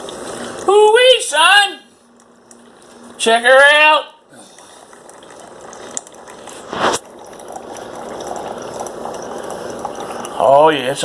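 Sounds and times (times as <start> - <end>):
coffee maker hissing and gurgling: 0.0 - 11.0.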